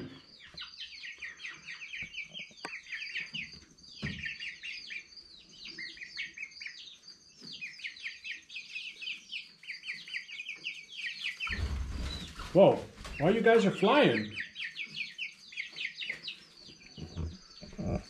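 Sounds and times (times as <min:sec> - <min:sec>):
chicks cheeping: 0:00.0 - 0:18.0.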